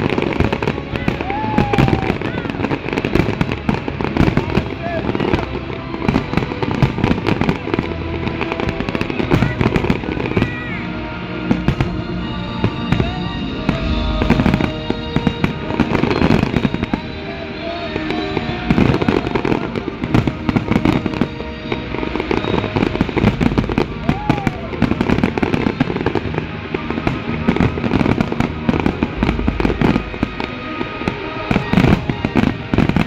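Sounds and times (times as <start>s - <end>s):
fireworks bangs and crackles: 0.0s - 33.0s
music playing: 0.0s - 33.0s.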